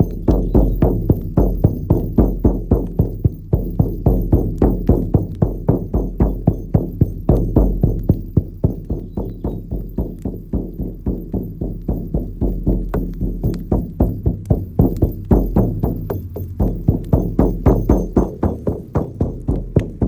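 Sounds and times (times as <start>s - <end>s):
frame drum beaten: 0.0s - 20.0s.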